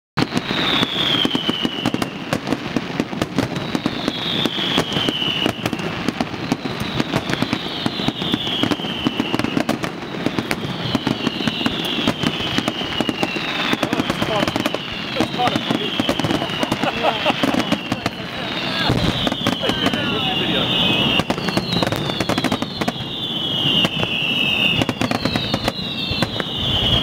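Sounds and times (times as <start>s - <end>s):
fireworks bursting and crackling: 0.2s - 27.0s.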